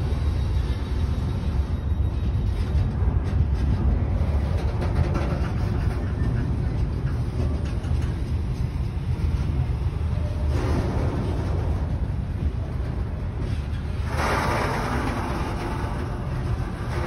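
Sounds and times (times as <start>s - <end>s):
rushing noise: 0.0s - 17.0s
train wheels rumbling on rails: 0.0s - 17.0s.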